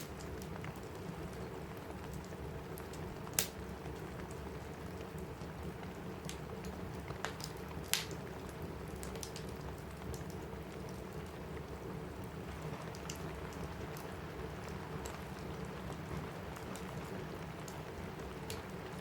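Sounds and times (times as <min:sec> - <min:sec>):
rain on a roof: 0:00.0 - 0:19.0
wood fire crackling and popping: 0:00.0 - 0:19.0.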